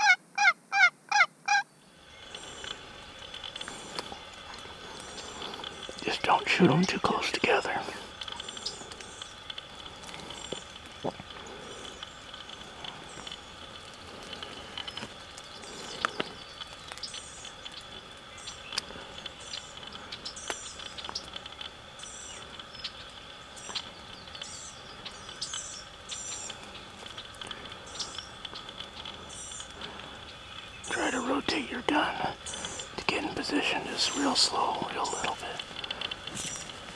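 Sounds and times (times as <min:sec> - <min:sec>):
faint high whine: 0:01.0 - 0:36.9
bird chirping: 0:01.1 - 0:36.9.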